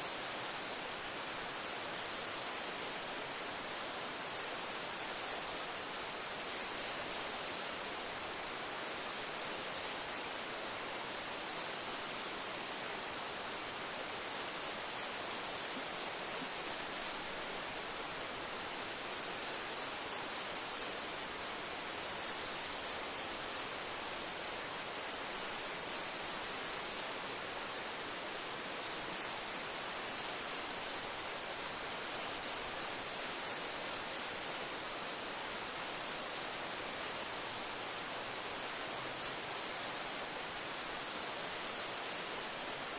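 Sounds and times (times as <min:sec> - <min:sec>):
insect chirping: 0:00.0 - 0:42.9
soft even hiss: 0:00.0 - 0:42.9.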